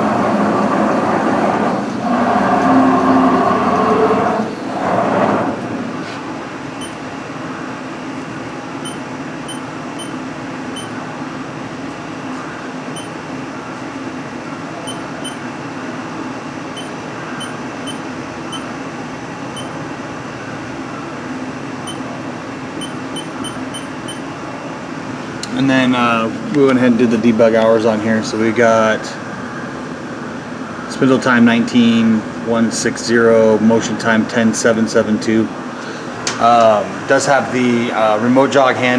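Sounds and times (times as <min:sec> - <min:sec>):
machine hum and hiss: 0:00.0 - 0:38.9.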